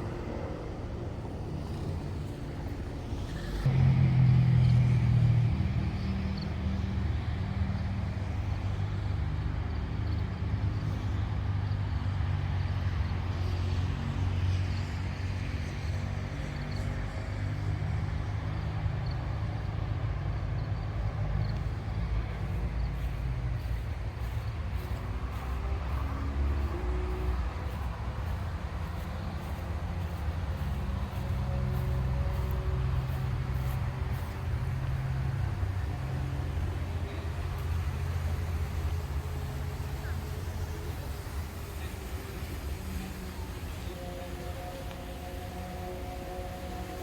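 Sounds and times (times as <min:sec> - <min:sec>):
cars passing on highway: 0:00.0 - 0:47.0
engine rising in pitch: 0:00.0 - 0:47.0.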